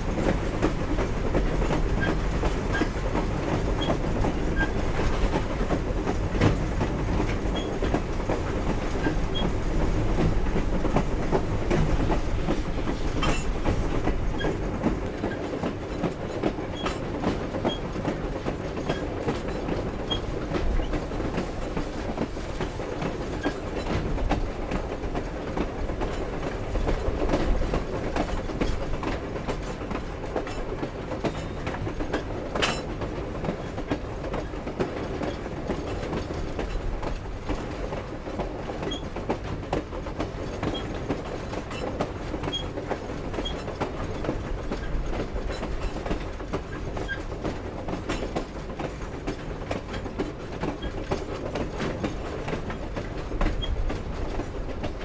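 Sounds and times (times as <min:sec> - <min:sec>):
train cars clanking: 0:00.0 - 0:55.0
wheels clicking over rail joints: 0:00.0 - 0:55.0.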